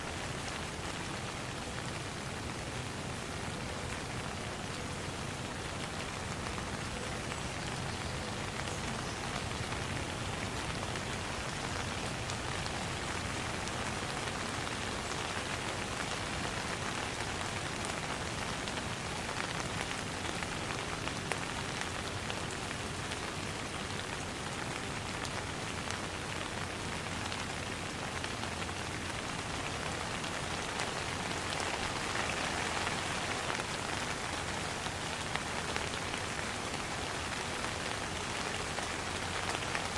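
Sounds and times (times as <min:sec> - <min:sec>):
rain falling on a pond: 0:00.0 - 0:39.9.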